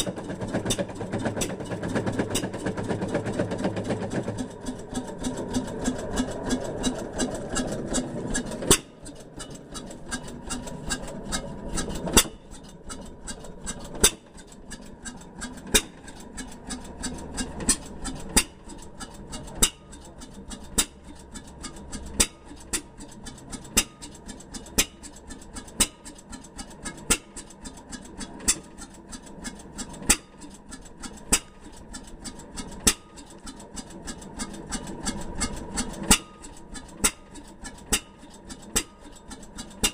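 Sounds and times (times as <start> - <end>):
engine mechanical clatter: 0.0 - 39.9.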